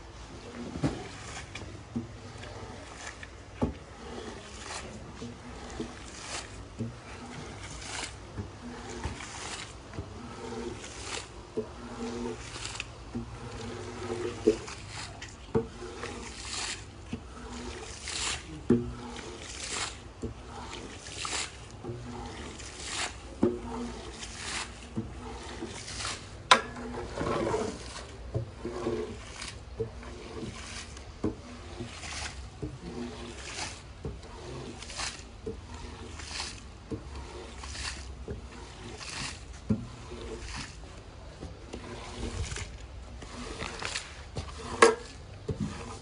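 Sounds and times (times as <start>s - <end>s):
scraper swishing wet rug: 0.0s - 46.0s.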